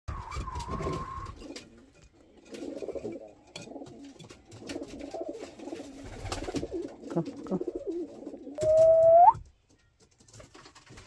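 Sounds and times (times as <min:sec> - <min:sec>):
pigeons cooing: 0:00.1 - 0:09.4.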